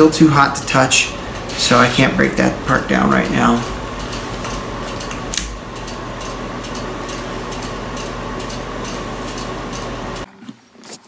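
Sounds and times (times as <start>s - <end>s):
low hum: 0.4s - 10.3s.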